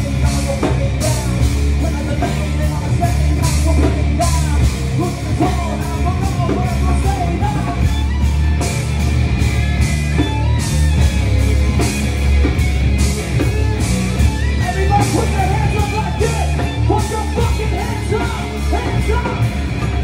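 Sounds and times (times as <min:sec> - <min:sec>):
heavy rock band playing live: 0:00.0 - 0:20.0.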